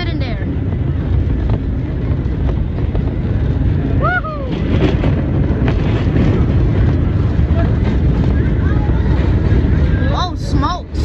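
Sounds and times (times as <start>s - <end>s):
train wheels rumbling on rail: 0.0s - 11.0s
wind on microphone: 0.0s - 11.0s.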